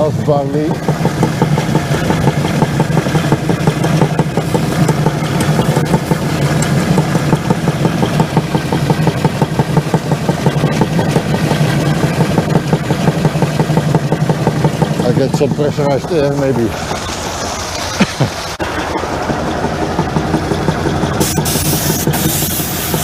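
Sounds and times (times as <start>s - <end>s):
grain conveyor running: 0.0s - 23.0s.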